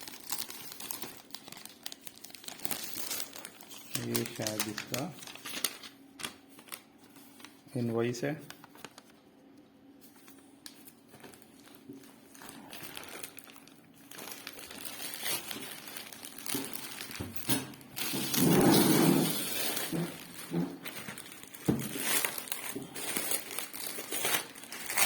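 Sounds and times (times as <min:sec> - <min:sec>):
packaging rustling and crinkling: 0:00.0 - 0:09.2, 0:10.0 - 0:25.0.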